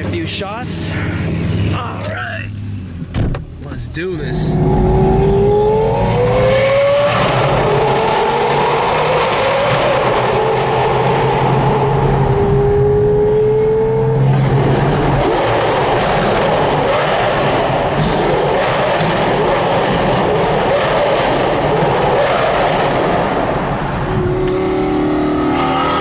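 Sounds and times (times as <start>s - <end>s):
car engine accelerating: 0.0s - 26.0s
road and wind noise: 0.0s - 26.0s.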